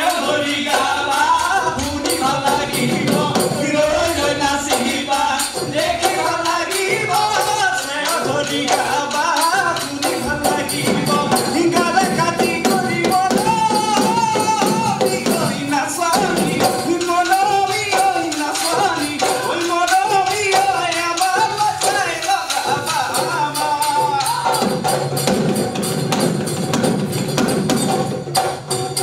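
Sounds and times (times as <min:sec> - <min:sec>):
dhol drums: 0:00.0 - 0:29.0
hand cymbals: 0:00.0 - 0:29.0.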